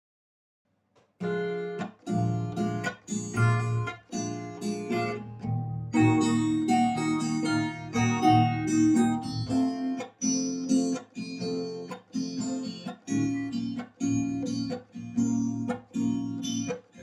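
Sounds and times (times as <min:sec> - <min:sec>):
acoustic guitar strumming chords: 0:01.2 - 0:17.0.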